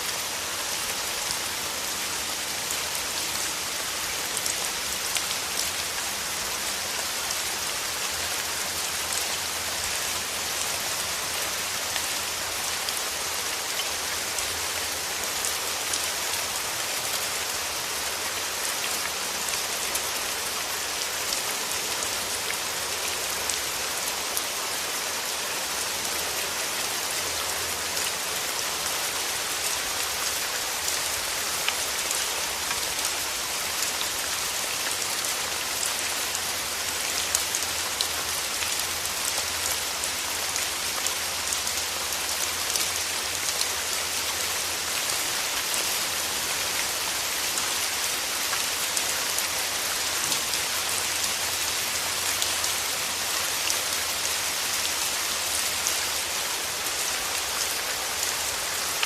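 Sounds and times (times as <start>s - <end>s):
rain falling through trees: 0.0s - 59.0s.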